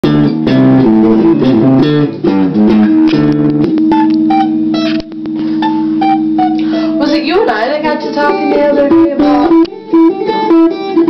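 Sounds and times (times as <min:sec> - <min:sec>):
electric guitar riff: 0:00.0 - 0:11.0.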